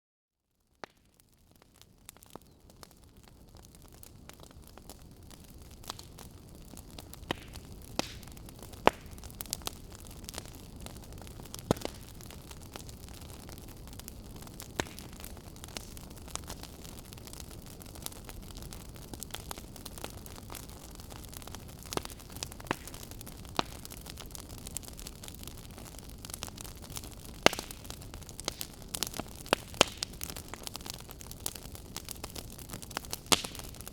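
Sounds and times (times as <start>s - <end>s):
fire popping: 0.7s - 33.9s
fireplace fire crackling: 0.7s - 33.9s.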